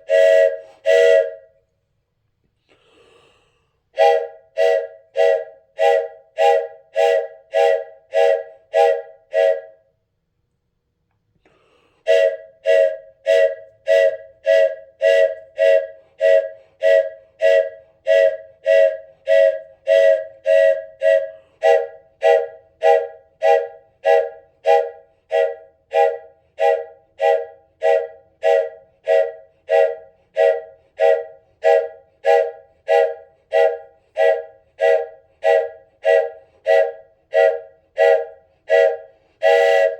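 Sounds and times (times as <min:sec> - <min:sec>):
wooden train whistle toots: 0:00.0 - 0:01.7, 0:04.0 - 0:10.0, 0:12.0 - 0:39.9.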